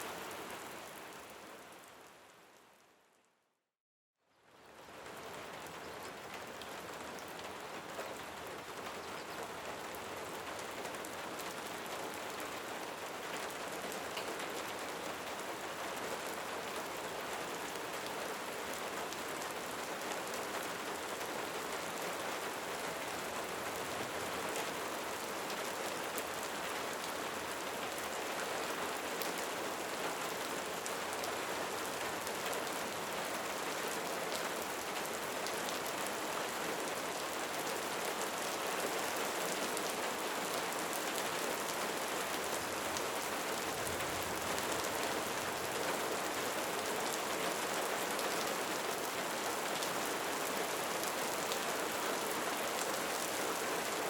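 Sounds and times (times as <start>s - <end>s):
steady rain falling: 0.0s - 3.2s, 4.4s - 54.0s
patter of raindrops: 4.3s - 54.0s.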